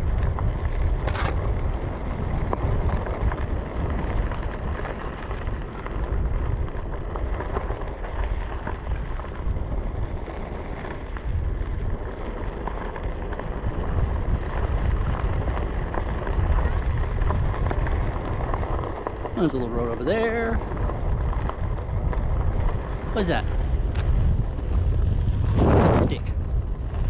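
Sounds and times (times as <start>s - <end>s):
tyres crackling over gravel: 0.0s - 27.0s
wind rumbling on microphone: 0.0s - 27.0s.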